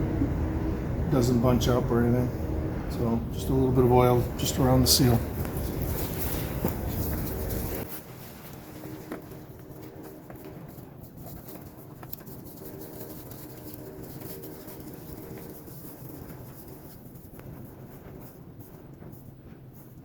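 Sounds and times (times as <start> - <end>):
faint clicks and handling noise: 4.0 - 20.0.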